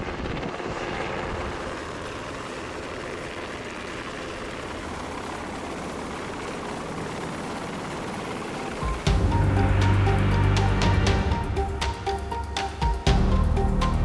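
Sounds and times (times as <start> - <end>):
helicopter rotor and turbines: 0.0 - 14.0.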